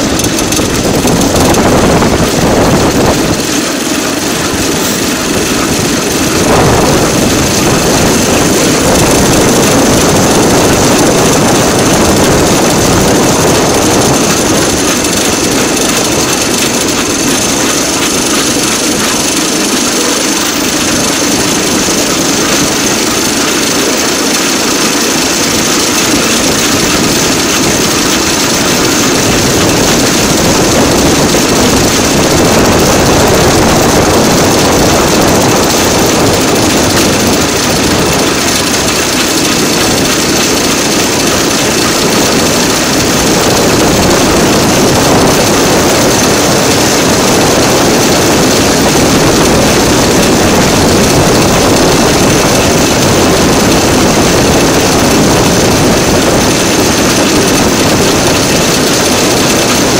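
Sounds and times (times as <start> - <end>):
rail vehicle engine running: 0.0 - 59.9
wheels on track: 0.0 - 59.9.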